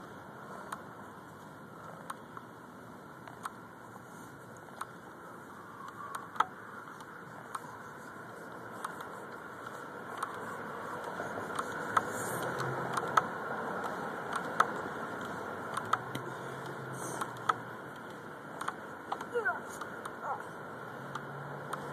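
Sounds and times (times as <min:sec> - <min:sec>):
steady rushing noise: 0:00.0 - 0:21.9.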